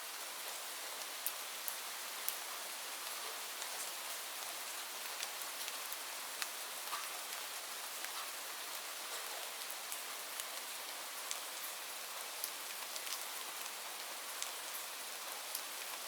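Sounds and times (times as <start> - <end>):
rain falling: 0.0 - 16.0
raindrops ticking on surface: 0.1 - 16.0.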